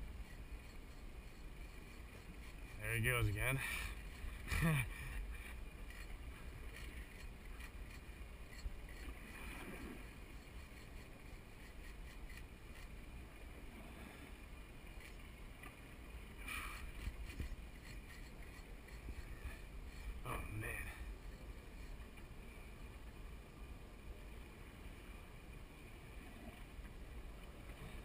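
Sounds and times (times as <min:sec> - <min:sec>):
wind: 0:00.0 - 0:28.0.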